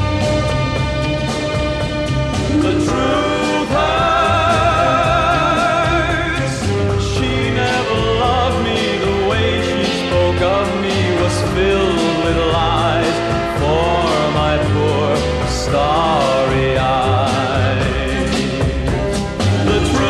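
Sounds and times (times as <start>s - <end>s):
orchestral backing with steady beat: 0.0s - 20.0s
man singing with wide vibrato: 2.4s - 18.8s, 19.4s - 20.0s.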